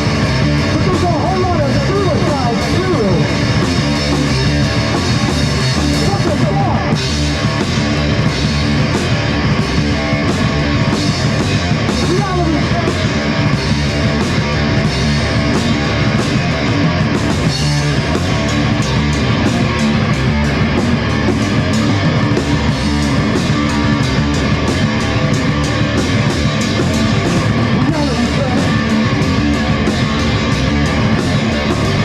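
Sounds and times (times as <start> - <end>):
loud rock band music: 0.0 - 32.0.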